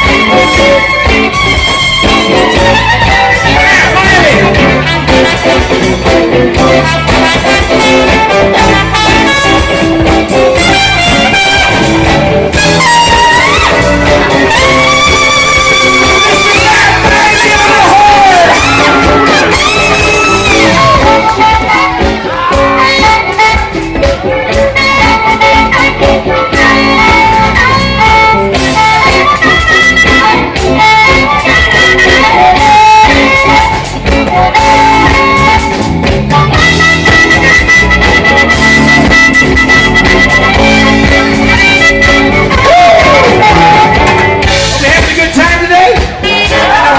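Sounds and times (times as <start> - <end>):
lead instrument bending notes: 0.0 - 45.2
live blues band playing: 0.0 - 46.9.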